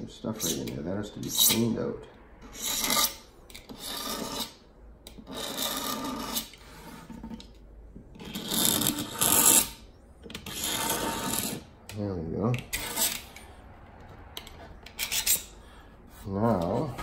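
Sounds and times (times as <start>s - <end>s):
hand tool scraping wood: 0.3s - 1.8s, 2.4s - 7.5s, 8.1s - 11.8s, 12.6s - 13.4s, 14.0s - 17.0s.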